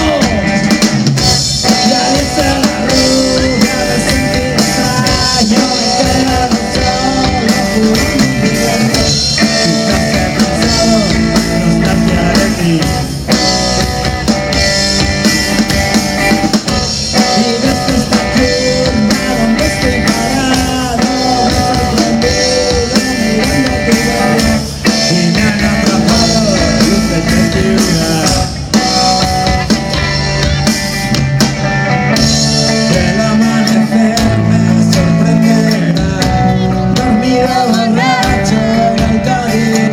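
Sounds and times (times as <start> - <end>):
person singing: 0.0 - 0.8, 1.6 - 13.1, 17.1 - 29.6, 32.5 - 39.9
drum kit: 0.0 - 39.9
electric guitar: 0.0 - 39.9
rock song: 0.0 - 39.9.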